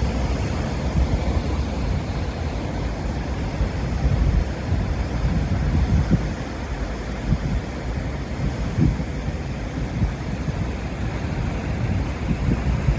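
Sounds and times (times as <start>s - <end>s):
surf against rocky coast: 0.0s - 12.9s
wind buffeting microphone: 0.0s - 12.9s.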